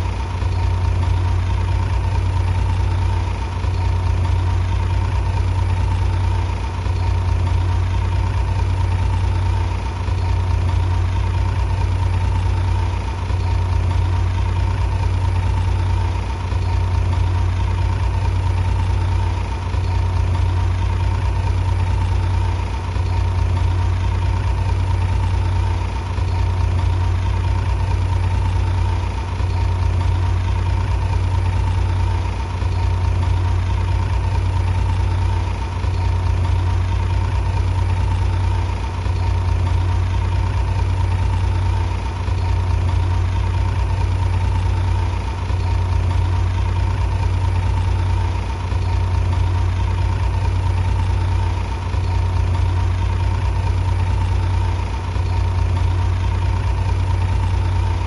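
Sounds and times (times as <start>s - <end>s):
heavy engine humming: 0.0s - 58.0s.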